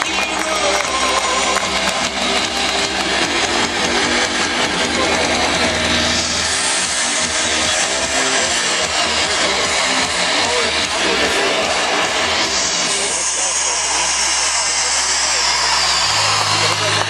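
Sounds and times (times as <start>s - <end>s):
deep bass: 0.0s - 17.0s
show music with guitar: 0.0s - 17.0s.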